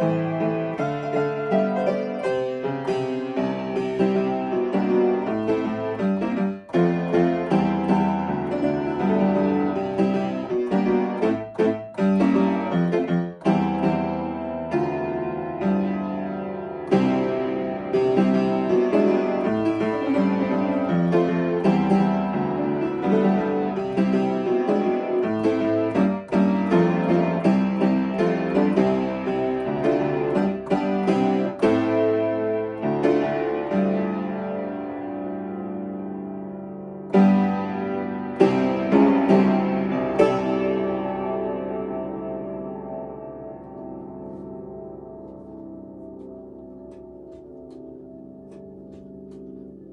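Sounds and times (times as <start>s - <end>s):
upright piano playing: 0.0s - 49.9s.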